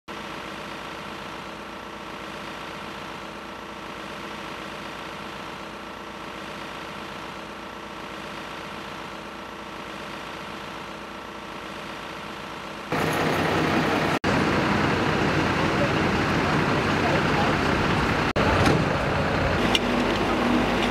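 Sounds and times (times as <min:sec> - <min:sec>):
steady motor hum: 0:00.1 - 0:20.9.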